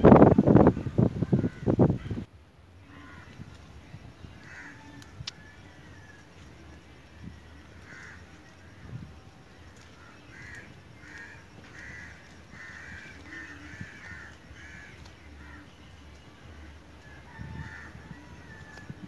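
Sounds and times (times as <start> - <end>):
bird calling: 2.8 - 19.0.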